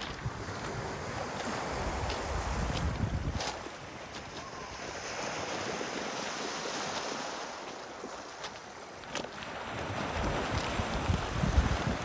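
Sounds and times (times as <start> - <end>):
waves lapping on rocky beach: 0.0 - 12.0.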